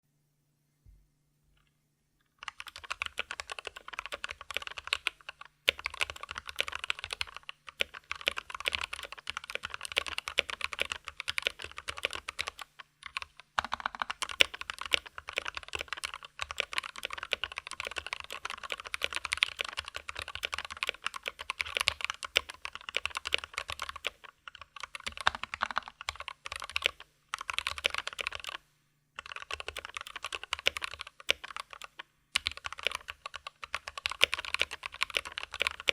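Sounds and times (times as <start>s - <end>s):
fast typing on mechanical keyboard: 2.4s - 28.6s, 29.2s - 35.9s.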